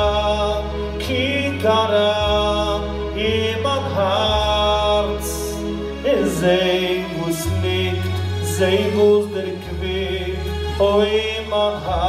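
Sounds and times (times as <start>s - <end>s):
instrumental accompaniment with bass notes: 0.0s - 12.0s.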